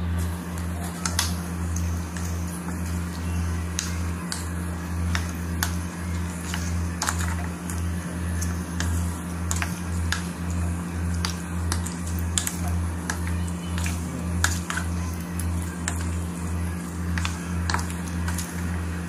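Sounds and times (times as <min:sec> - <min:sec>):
background music with low beat: 0:00.0 - 0:19.0.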